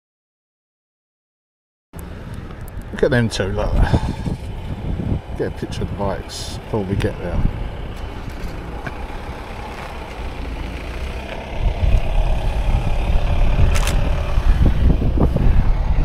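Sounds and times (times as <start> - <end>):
wind buffeting microphone: 2.0 - 16.0.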